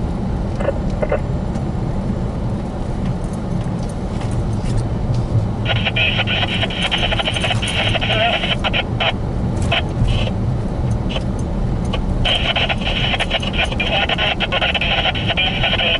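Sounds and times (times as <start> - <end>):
car driving on snow: 0.0 - 15.9.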